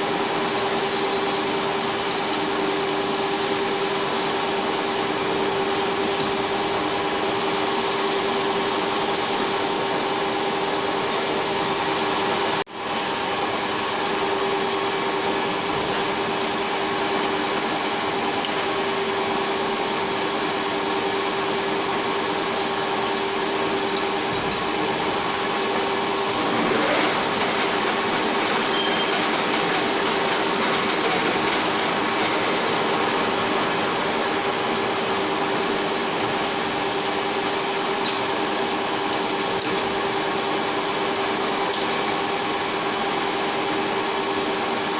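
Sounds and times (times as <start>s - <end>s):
lathe running with gear whine: 0.0s - 44.9s.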